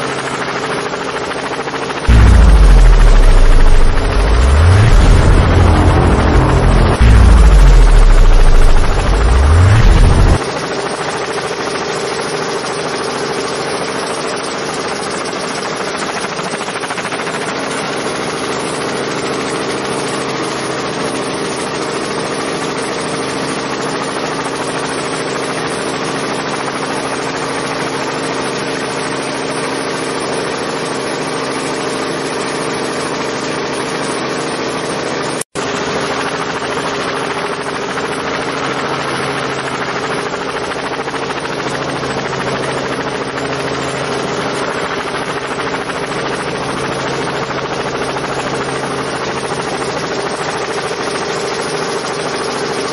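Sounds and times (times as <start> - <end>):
helicopter hovering drone: 0.0 - 52.9.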